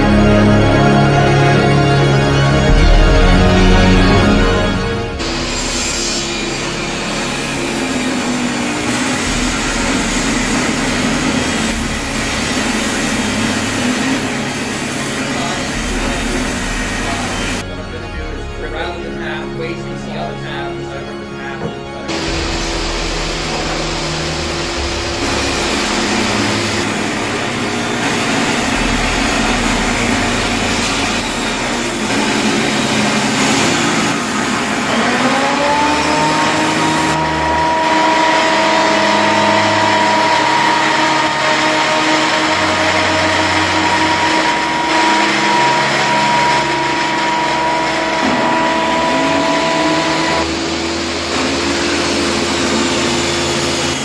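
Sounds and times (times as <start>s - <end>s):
motor whining: 0.0s - 19.0s, 19.6s - 54.0s
power tools roaring: 0.0s - 54.0s.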